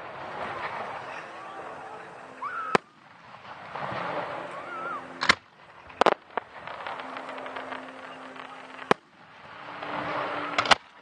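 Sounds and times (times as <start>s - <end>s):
faint crackling: 0.0s - 11.0s
fireworks bangs: 0.0s - 11.0s.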